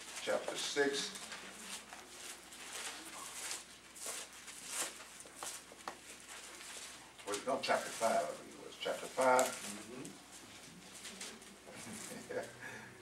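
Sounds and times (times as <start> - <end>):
thin paper pages rustling: 0.0 - 12.5.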